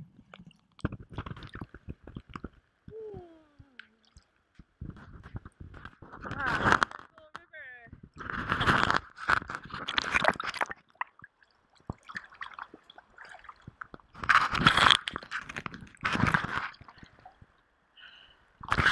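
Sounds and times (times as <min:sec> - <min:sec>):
water sloshing and splashing: 0:00.0 - 0:17.8, 0:18.6 - 0:18.9.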